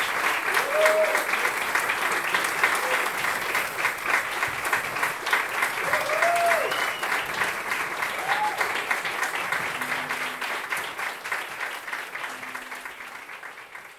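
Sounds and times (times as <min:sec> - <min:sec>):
audience applauding: 0:00.0 - 0:13.9
crowd cheering: 0:00.0 - 0:13.9.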